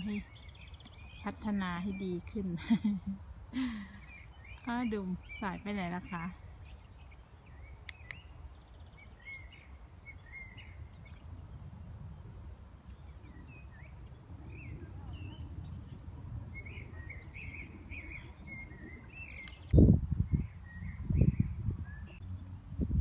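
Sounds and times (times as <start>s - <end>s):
small birds chirping: 0.0s - 23.0s
wind on microphone: 0.0s - 23.0s.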